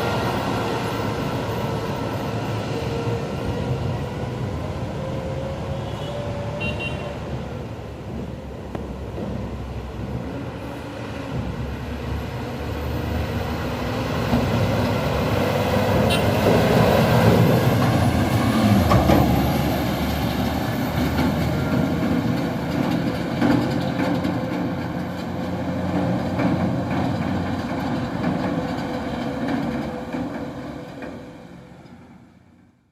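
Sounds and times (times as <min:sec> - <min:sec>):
dump truck diesel engine passing: 0:00.0 - 0:32.8.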